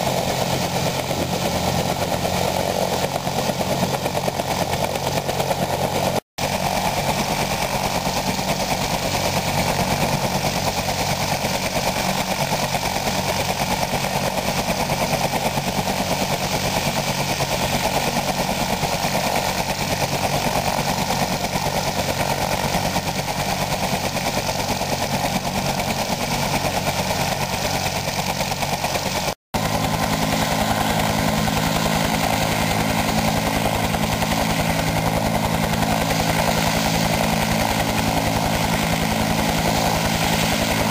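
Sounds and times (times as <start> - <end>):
helicopter rotor thumping: 0.0 - 40.9
helicopter turbine whine: 0.0 - 40.9.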